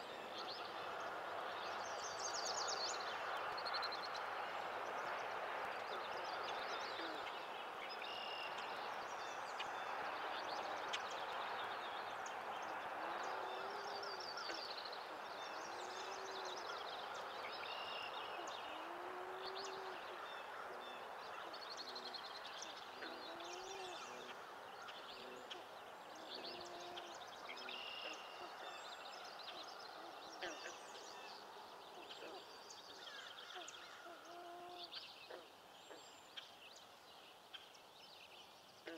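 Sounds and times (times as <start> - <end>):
songbirds trilling and whistling: 0.0 - 38.9
steady background hiss: 0.0 - 38.9.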